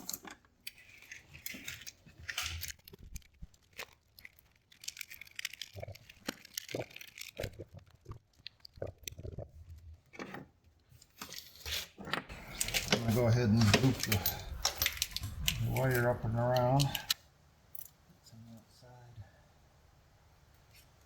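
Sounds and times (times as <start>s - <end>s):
rustling and crinkling of wiring: 0.0s - 18.4s.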